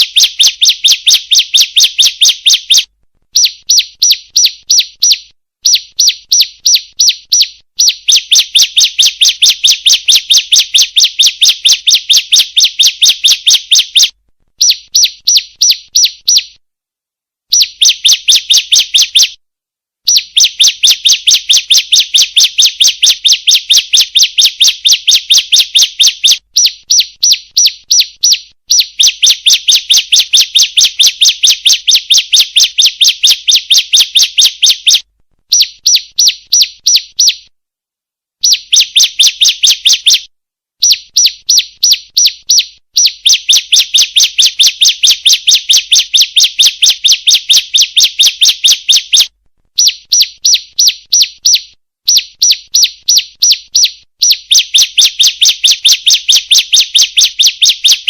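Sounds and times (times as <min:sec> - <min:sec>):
bird high chirping calls: 0:00.0 - 0:16.6, 0:17.5 - 0:19.4, 0:20.1 - 0:37.5, 0:38.4 - 0:58.0.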